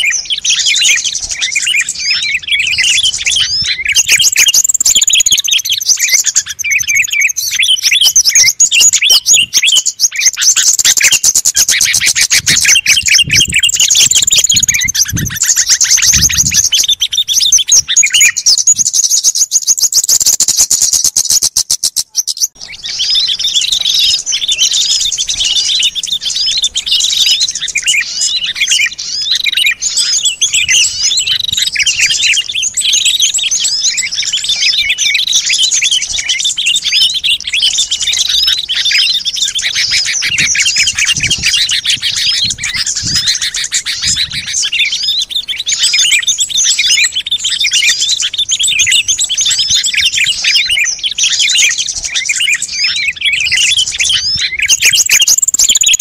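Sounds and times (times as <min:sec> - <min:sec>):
songbirds chirping chorus: 0:00.0 - 0:56.0.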